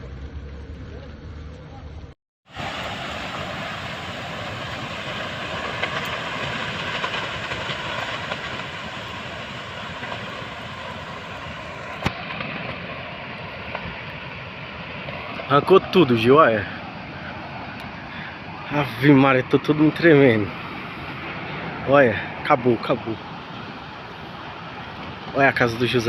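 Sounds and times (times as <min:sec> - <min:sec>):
strong wind rushing: 0:02.5 - 0:26.0.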